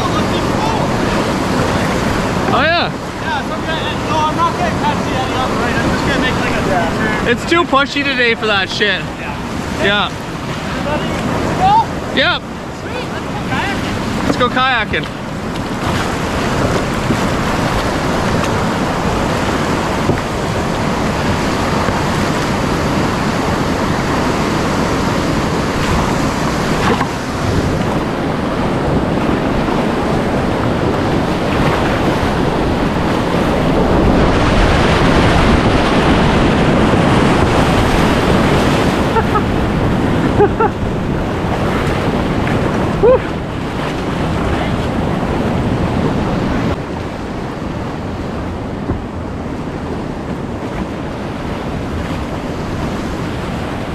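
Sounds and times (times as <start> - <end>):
rushing whitewater: 0.0 - 53.9
wind on microphone: 0.0 - 53.9.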